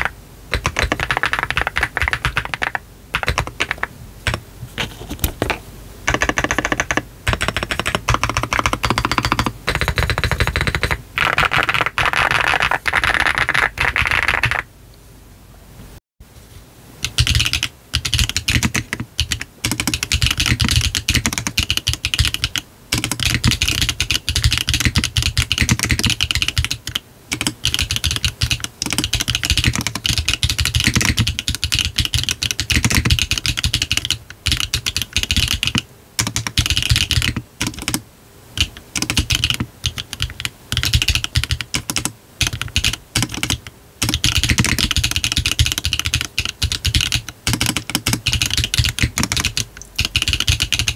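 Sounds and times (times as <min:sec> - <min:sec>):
fast mechanical keyboard typing: 0:00.0 - 0:14.7, 0:17.0 - 0:38.0, 0:38.6 - 0:50.9.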